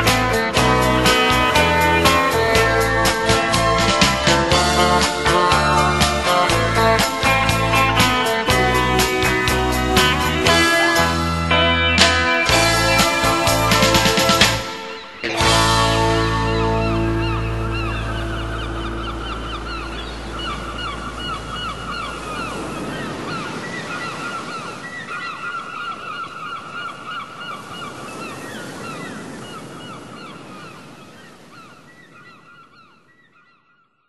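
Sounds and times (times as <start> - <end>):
surf: 0.0 - 33.1
gulls calling: 0.0 - 33.8.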